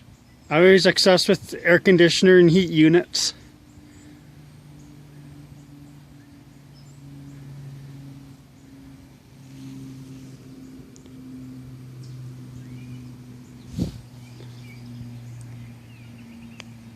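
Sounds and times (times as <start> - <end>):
low machine hum: 0.0 - 16.9.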